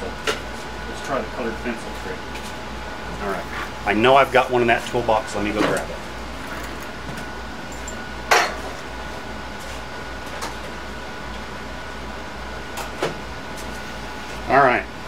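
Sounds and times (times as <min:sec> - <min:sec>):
steady shop hum: 0:00.0 - 0:15.0.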